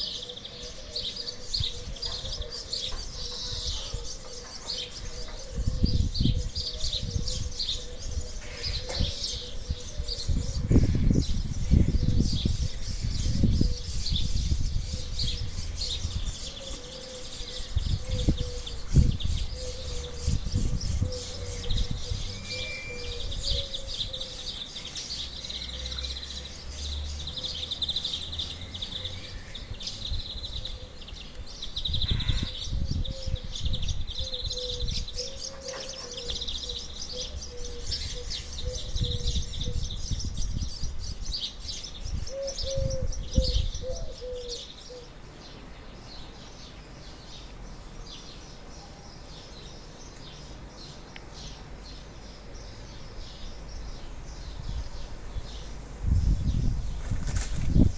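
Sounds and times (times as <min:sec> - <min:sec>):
birds chirping and twittering: 0:00.0 - 0:57.9.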